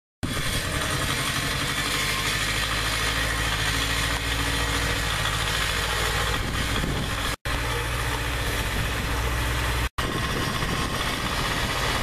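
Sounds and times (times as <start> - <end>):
tractor diesel engine running: 0.2 - 12.0.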